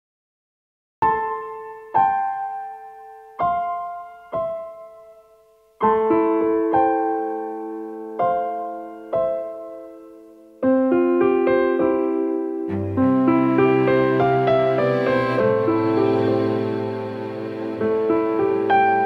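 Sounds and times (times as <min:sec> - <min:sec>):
slow solo piano music: 0:01.0 - 0:19.0.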